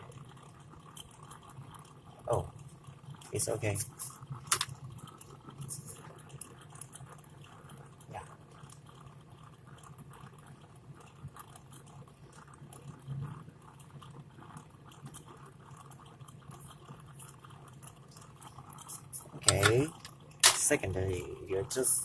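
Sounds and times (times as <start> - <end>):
faint crackling and clicks: 0.0 - 22.0
low steady hum: 0.0 - 22.0.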